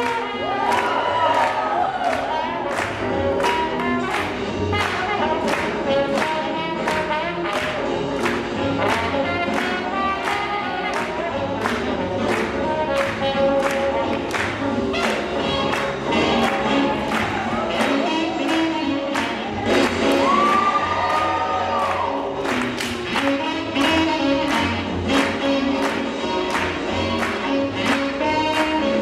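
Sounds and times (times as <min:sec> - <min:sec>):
swing music with singing: 0:00.0 - 0:29.0.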